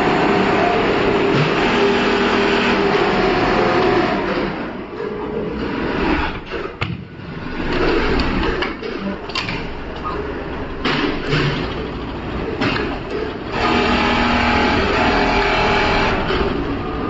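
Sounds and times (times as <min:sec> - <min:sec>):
workshop machinery running: 0:00.0 - 0:17.0.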